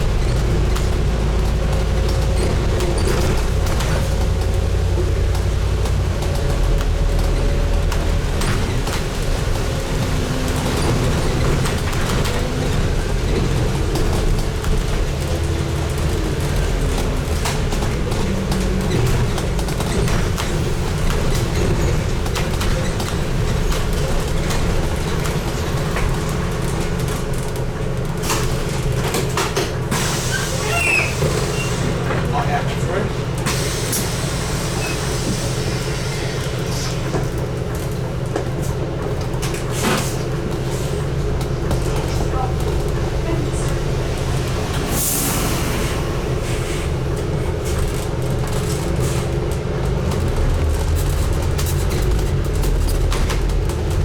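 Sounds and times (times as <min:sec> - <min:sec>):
bus engine and road rumble: 0:00.0 - 0:54.0
rattles in bus cabin: 0:00.0 - 0:54.0.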